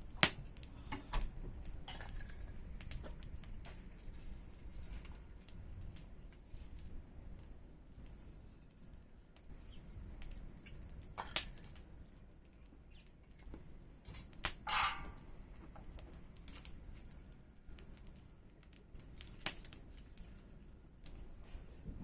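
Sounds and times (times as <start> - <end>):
campfire crackling and popping: 0.0 - 21.9
fire hissing flare: 0.0 - 22.0.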